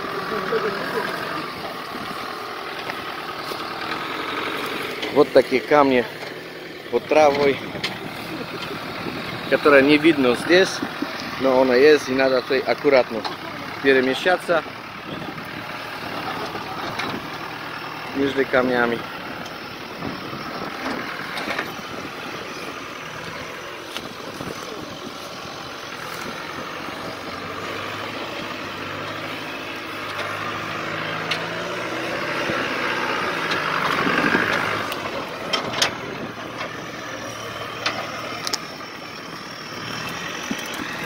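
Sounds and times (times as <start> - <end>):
vehicle engine under load: 0.0 - 41.0.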